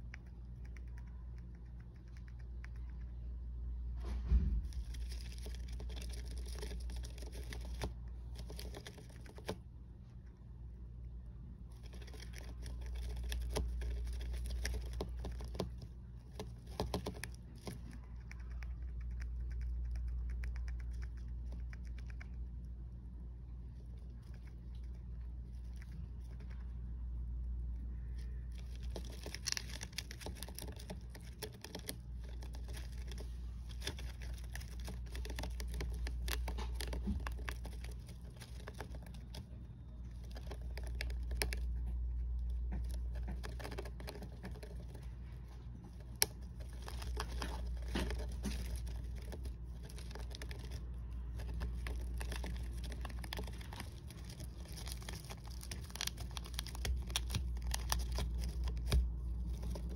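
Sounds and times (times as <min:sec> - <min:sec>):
low hum: 0:00.0 - 0:59.9
hamster gnawing on wood: 0:04.3 - 0:09.7, 0:11.6 - 0:26.8, 0:27.4 - 0:59.9.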